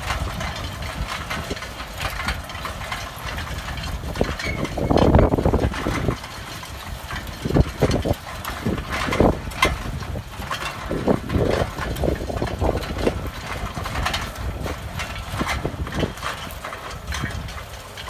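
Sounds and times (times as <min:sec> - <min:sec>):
knocks and rattles: 0:00.0 - 0:18.0
tractor engine running: 0:00.0 - 0:18.0.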